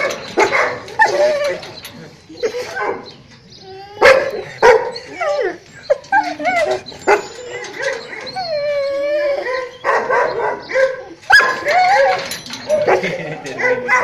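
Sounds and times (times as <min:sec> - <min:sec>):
dogs barking: 0:00.0 - 0:14.0
dogs whining and howling: 0:00.0 - 0:14.0.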